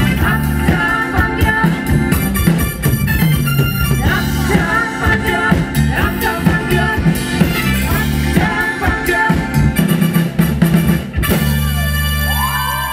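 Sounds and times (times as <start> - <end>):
melodic lead line bending: 0.0 - 12.5
live band playing: 0.0 - 12.9.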